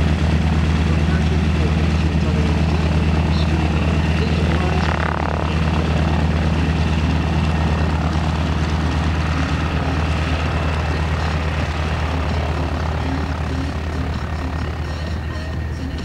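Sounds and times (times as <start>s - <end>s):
propeller airplane engine drone: 0.0s - 16.0s.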